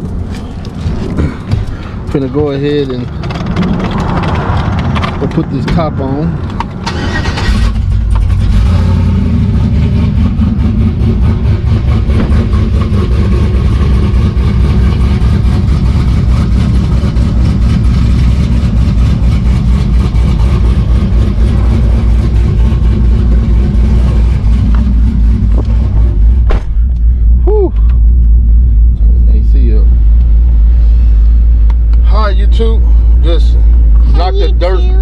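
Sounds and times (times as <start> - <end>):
car engine running: 0.0 - 35.0.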